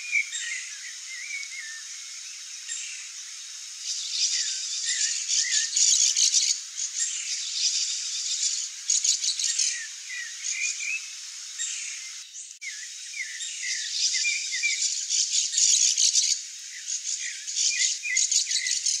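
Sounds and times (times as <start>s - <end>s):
small birds chirping: 0.0s - 19.0s
high rattling bird chatter: 2.4s - 12.2s, 13.5s - 19.0s.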